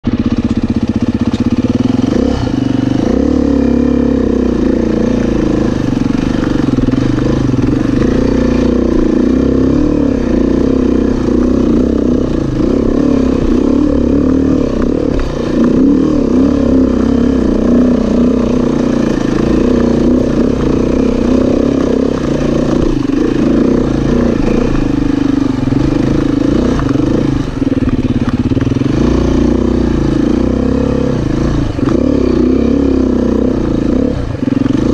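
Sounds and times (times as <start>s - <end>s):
dirt bike engine under load: 0.1s - 34.9s.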